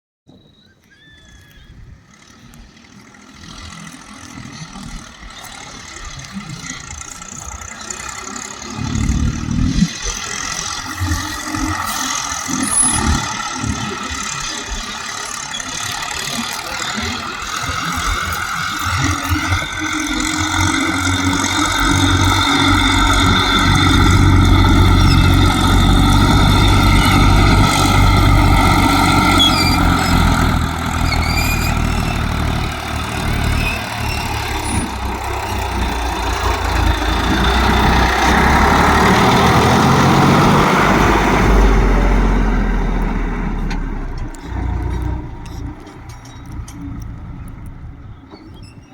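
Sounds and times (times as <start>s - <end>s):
tractor diesel engine under load: 0.4s - 48.9s.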